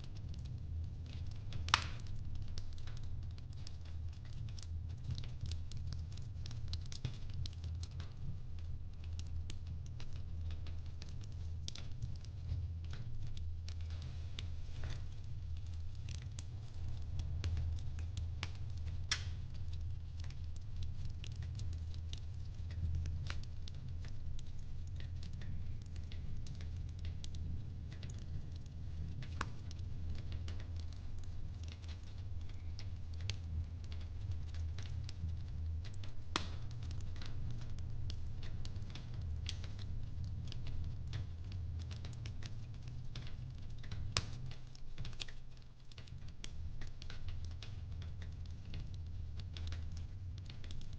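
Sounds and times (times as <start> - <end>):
fireplace crackling and popping: 0.0 - 50.9.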